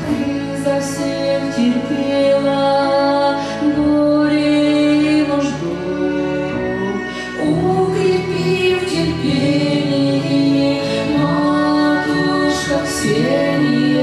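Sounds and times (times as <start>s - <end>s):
instrumental accompaniment: 0.0s - 14.0s
woman singing slow song: 0.0s - 14.0s.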